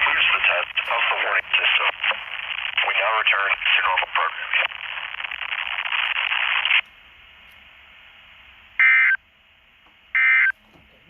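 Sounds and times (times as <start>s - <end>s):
radio static hiss: 0.0s - 9.2s, 10.1s - 11.0s.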